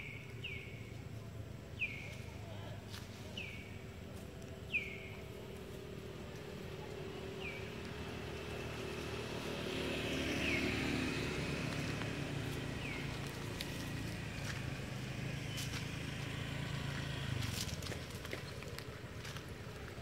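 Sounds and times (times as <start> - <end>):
distant engine running: 3.3 - 20.0.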